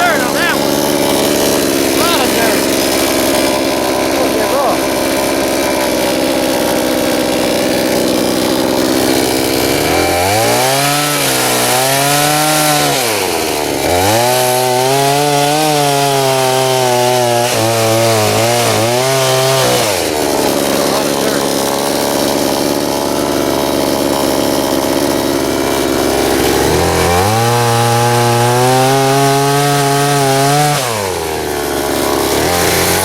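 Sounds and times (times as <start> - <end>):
chainsaw cutting wood: 0.0 - 33.0.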